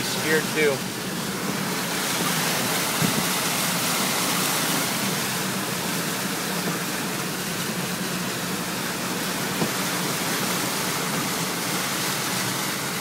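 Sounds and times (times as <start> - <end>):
engine hum: 0.0 - 13.0
water rushing against car: 0.0 - 13.0.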